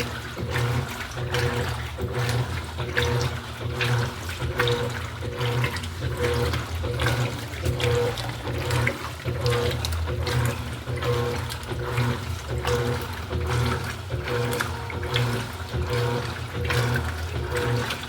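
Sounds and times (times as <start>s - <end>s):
washing machine motor humming: 0.0s - 18.0s
water sloshing in washing machine: 0.0s - 18.0s.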